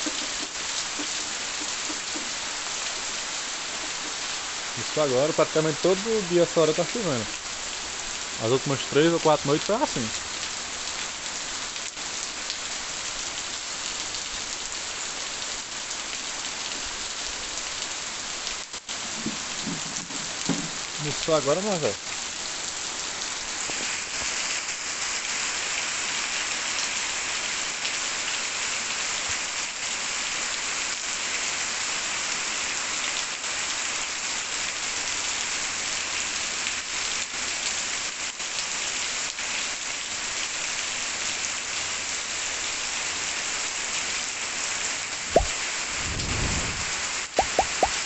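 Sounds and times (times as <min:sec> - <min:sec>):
steady rain on grass and puddles: 0:00.0 - 0:48.0.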